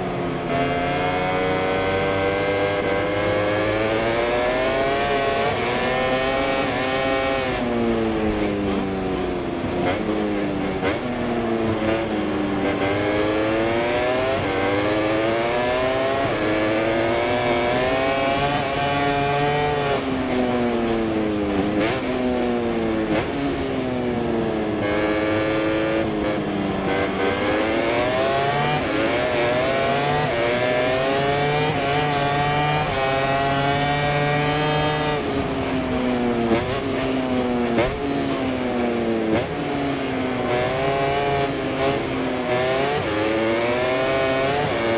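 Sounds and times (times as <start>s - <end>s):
racing motorcycle engine shifting gears: 0.0s - 44.9s.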